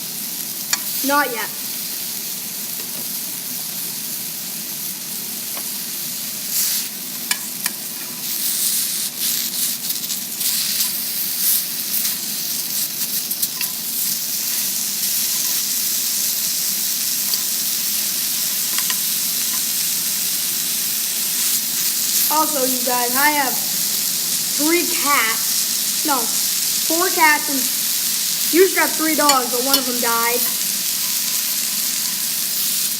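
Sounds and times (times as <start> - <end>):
chicken sizzling: 0.0 - 32.9.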